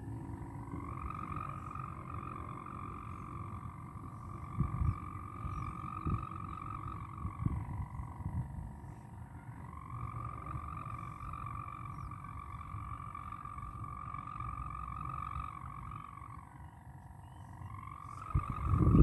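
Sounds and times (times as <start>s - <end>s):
kite bow humming drone: 0.0s - 19.0s
wind rumble on microphone: 0.0s - 19.0s.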